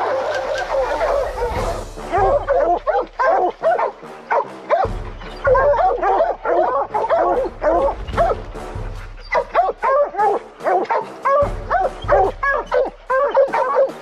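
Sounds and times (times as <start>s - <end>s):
hounds howling and bawling: 0.0s - 14.0s.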